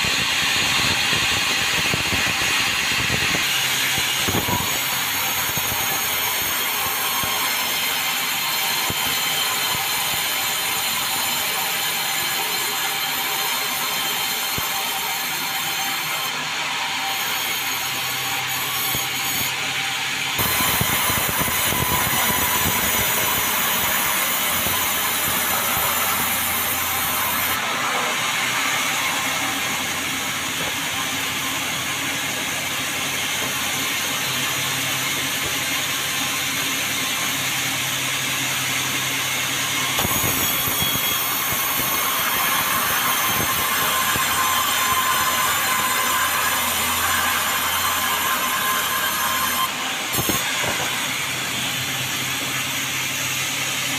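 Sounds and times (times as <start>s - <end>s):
sawmill blade cutting timber: 0.0s - 53.9s.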